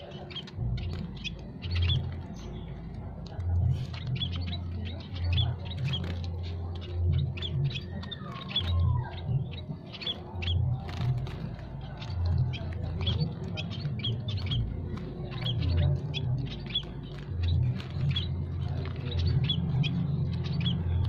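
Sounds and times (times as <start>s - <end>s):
munias chirping: 0.0s - 21.0s.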